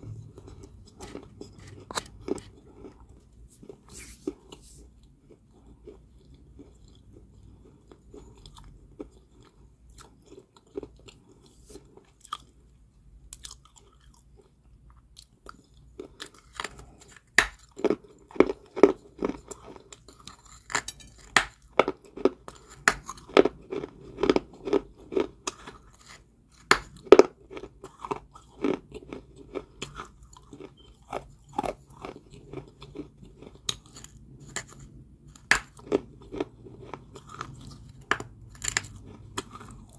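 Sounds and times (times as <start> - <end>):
person chewing crunchy clay: 0.0 - 39.9.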